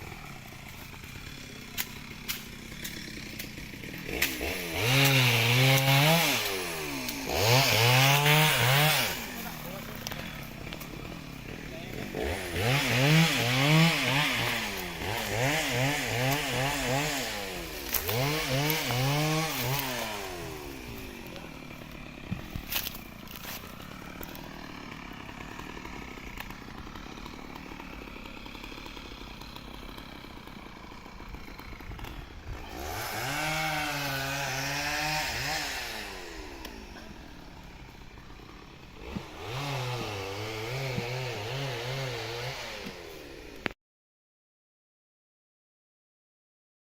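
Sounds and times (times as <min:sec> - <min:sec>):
chainsaw revving and idling: 0:00.0 - 0:43.8.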